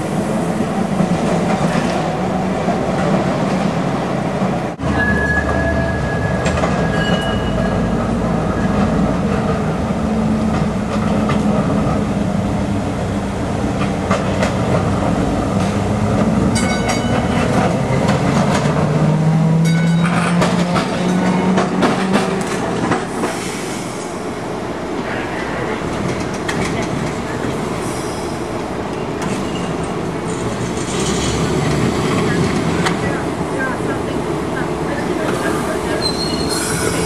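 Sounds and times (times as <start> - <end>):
streetcar wheels rumbling on rail: 0.0 - 37.0.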